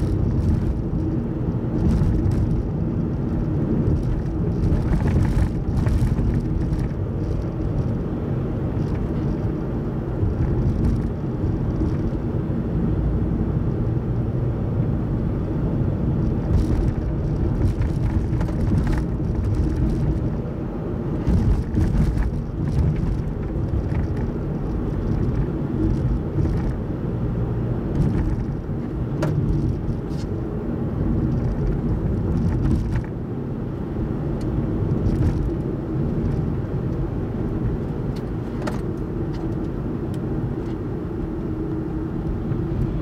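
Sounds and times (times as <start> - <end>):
car cabin road rumble: 0.0 - 43.0.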